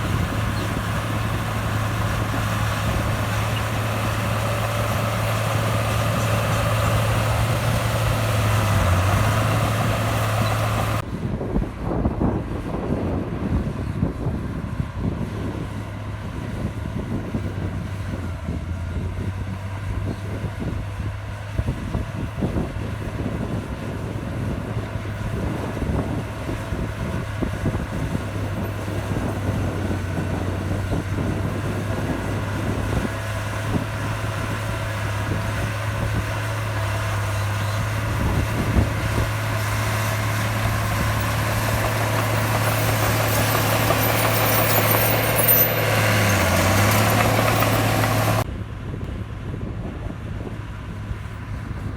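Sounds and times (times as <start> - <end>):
diesel engine of heavy machinery: 0.0 - 51.9.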